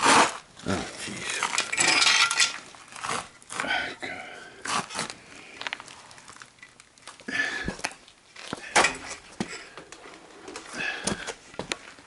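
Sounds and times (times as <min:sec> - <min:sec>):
person crawling on gritty concrete: 0:00.0 - 0:12.0.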